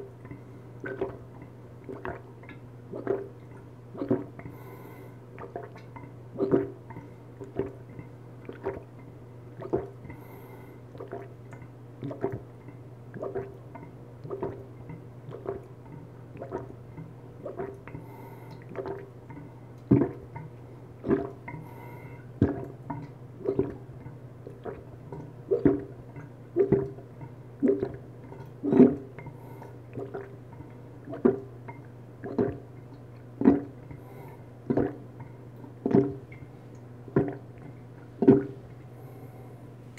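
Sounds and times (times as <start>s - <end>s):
steady low hum: 0.0s - 39.9s
person gulping juice: 0.2s - 13.6s, 15.3s - 16.8s, 17.4s - 20.4s, 21.0s - 27.0s, 27.6s - 31.5s, 32.2s - 36.4s, 37.1s - 39.2s.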